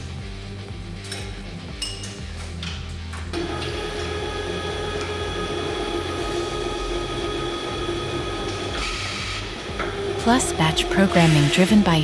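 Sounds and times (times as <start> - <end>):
machine humming and whining: 0.0 - 12.0.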